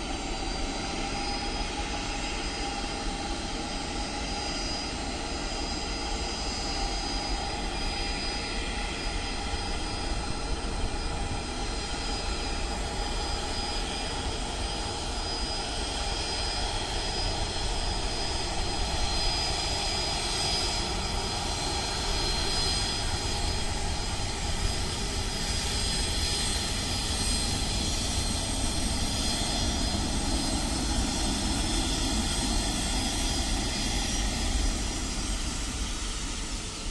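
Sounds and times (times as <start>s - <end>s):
jet engines rushing and whining: 0.0s - 36.9s.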